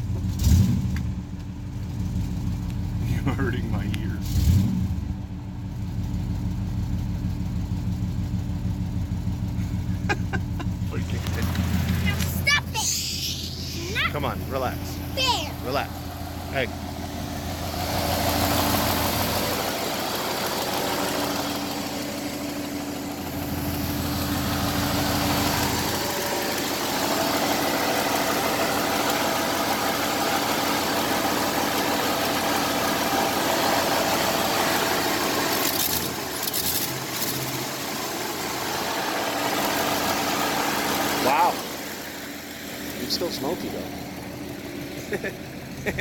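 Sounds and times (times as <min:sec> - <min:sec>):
truck engine idling roughly: 0:05.3 - 0:46.0.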